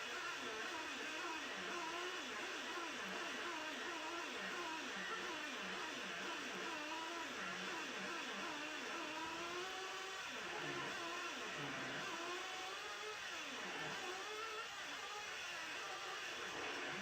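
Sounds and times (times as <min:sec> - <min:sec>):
small nitro engine revving: 0:00.0 - 0:17.0.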